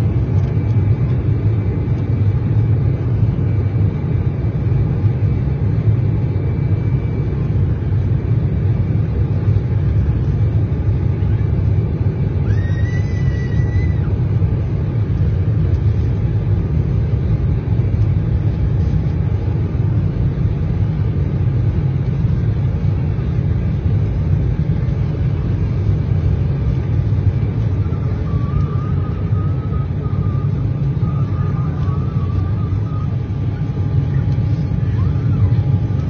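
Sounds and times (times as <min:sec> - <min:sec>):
jet cabin rumble at takeoff: 0:00.0 - 0:36.0.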